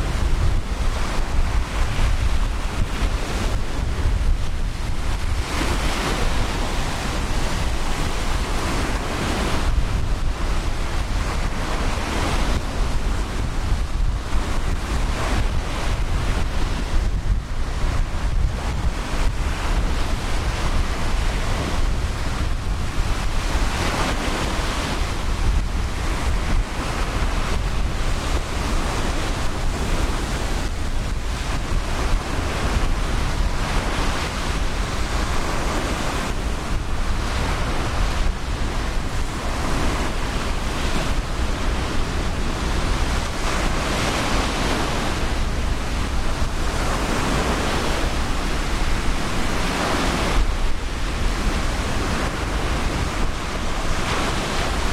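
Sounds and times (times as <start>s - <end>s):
ocean surf washing onto beach: 0.0s - 54.9s
wind buffeting microphone: 0.0s - 54.9s.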